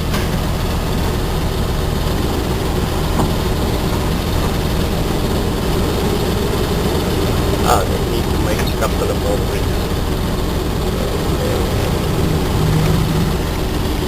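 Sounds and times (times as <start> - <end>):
truck diesel engine droning: 0.0 - 14.0.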